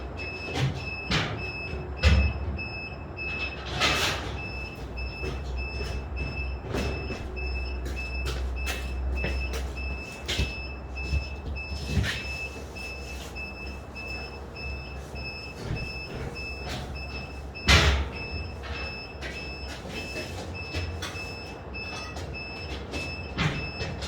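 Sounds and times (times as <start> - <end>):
low machine hum: 4.3 - 23.8.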